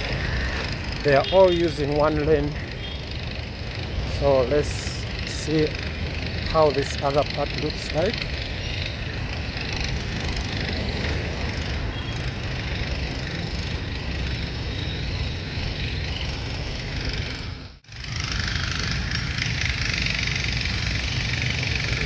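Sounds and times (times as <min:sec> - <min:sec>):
vehicle and road rumble: 0:00.0 - 0:22.0.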